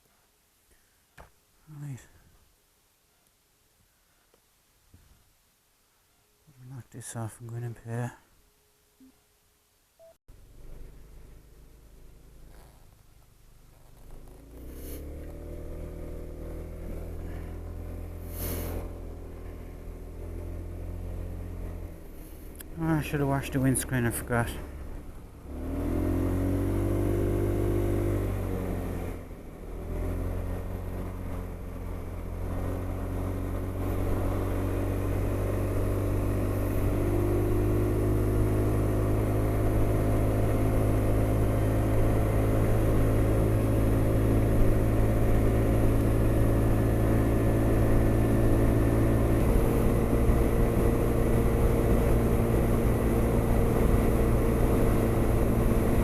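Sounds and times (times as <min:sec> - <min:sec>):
scooter engine accelerating: 0:10.4 - 0:56.0.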